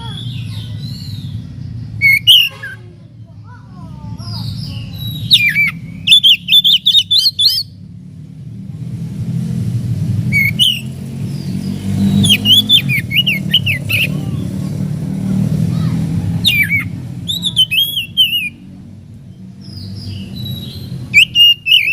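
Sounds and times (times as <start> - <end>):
bird chirping harshly: 0.0 - 3.4, 4.2 - 7.8, 10.2 - 18.7, 19.3 - 21.9.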